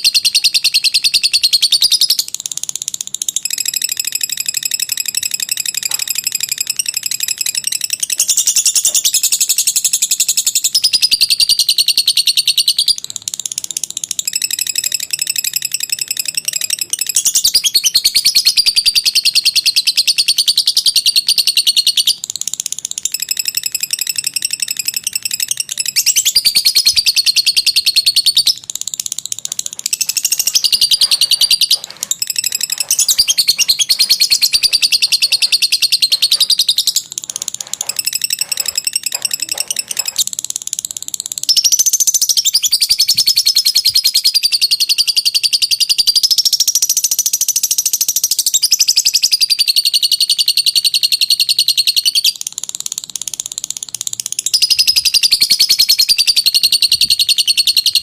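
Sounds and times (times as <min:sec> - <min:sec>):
lovebird chattering song: 0:00.0 - 0:58.0.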